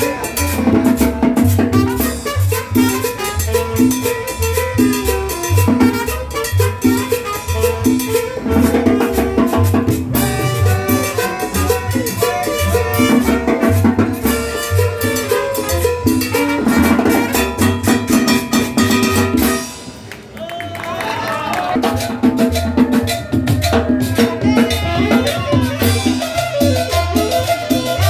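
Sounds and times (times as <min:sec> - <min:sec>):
latin dance music: 0:00.0 - 0:20.1, 0:20.7 - 0:28.0.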